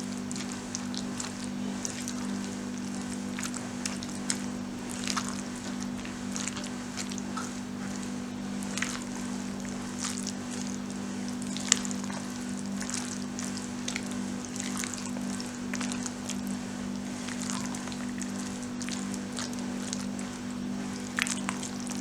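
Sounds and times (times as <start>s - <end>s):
soft wet food noises: 0.0s - 22.0s
steady low hum: 0.0s - 22.0s.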